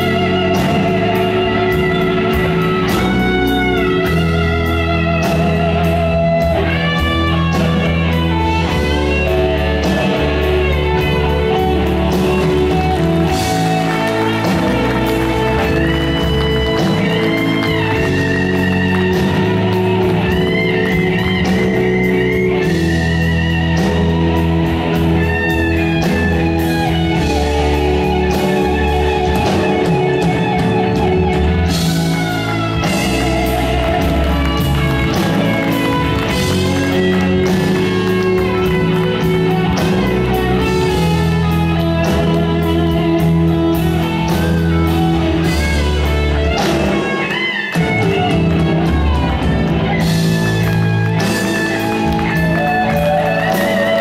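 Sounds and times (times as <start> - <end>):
electric guitar lead notes: 0.0 - 54.0
live rock music: 0.0 - 54.0.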